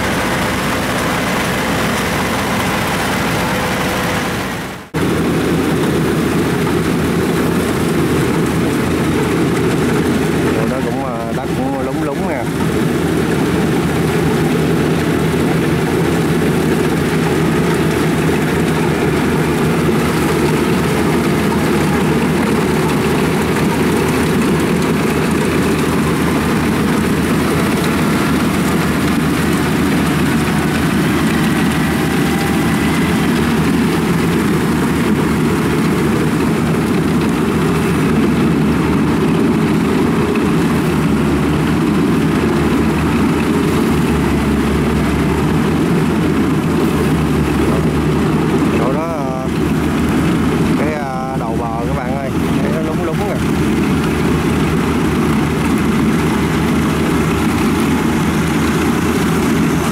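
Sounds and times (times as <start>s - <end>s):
combine harvester engine and machinery: 0.0s - 59.9s.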